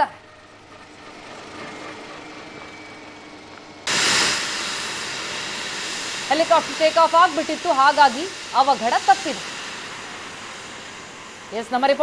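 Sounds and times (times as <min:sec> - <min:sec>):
helicopter turbine and rotor: 0:00.0 - 0:12.0.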